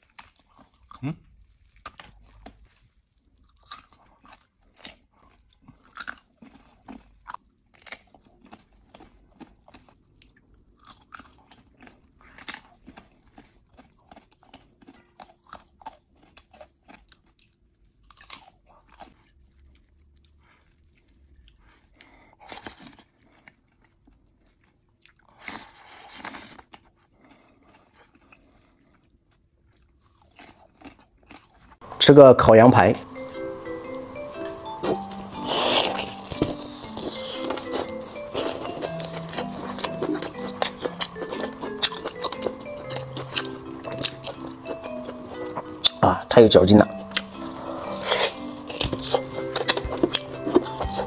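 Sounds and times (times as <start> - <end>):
person chewing meat with crunches: 0.0 - 31.9, 33.0 - 51.0.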